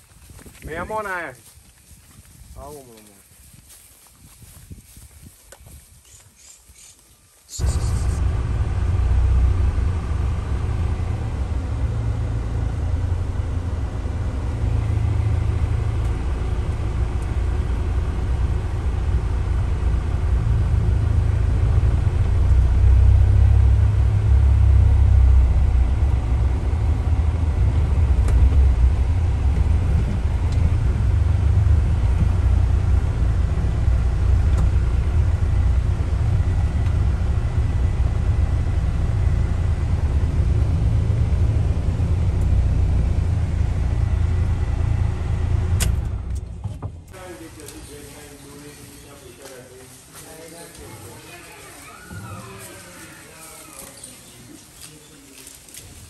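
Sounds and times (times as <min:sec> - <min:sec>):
car engine and tyre rumble: 0:00.0 - 0:06.1, 0:07.6 - 0:56.0.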